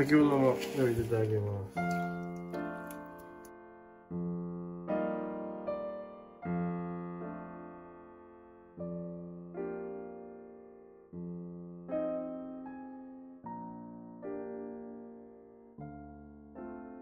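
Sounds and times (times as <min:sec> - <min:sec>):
electric piano chords: 0:00.0 - 0:17.0.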